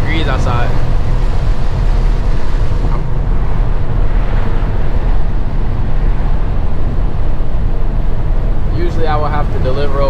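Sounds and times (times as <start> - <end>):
truck engine and road rumble: 0.0 - 10.0
wind rushing through window: 0.0 - 10.0.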